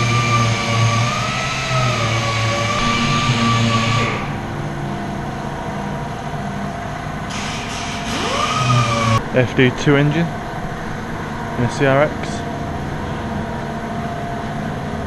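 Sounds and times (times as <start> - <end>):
low pulsing hum: 0.0 - 15.0
machine whine: 0.0 - 15.0.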